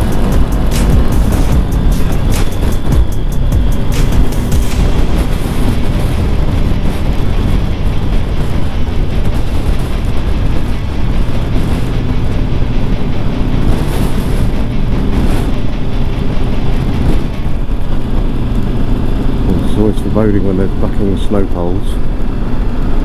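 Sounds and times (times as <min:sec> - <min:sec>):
motorcycle engine running: 0:00.0 - 0:23.0
wind rush: 0:00.0 - 0:23.0.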